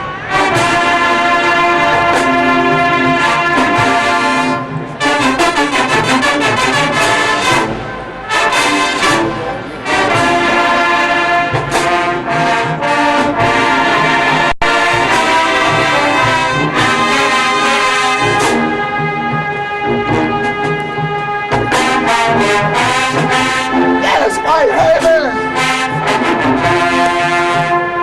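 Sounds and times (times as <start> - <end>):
brass section playing chords: 0.0 - 28.0.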